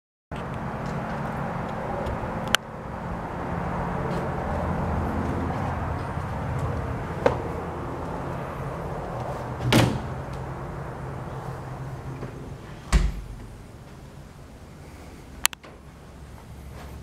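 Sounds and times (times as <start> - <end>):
low hum: 0.3 - 17.0.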